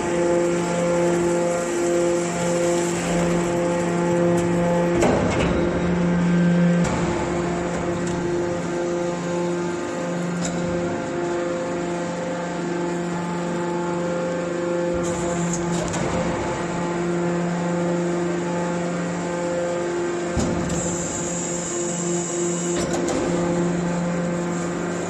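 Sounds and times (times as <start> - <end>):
hydraulic baler motor hum: 0.0 - 25.0.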